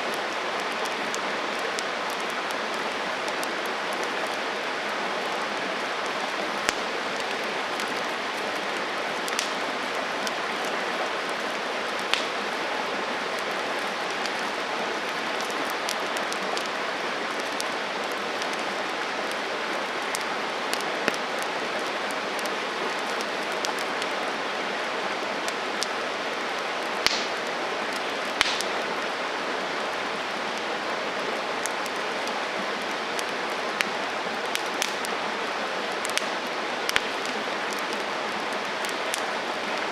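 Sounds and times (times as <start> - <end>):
campfire flame hissing: 0.0 - 39.9
fire crackles and pops: 0.0 - 39.9.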